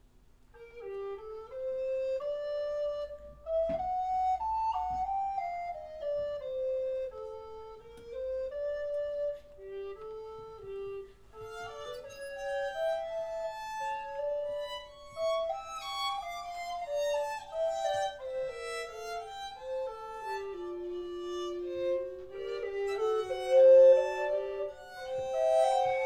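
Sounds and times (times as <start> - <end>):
chamber music with violin: 0.5 - 26.0.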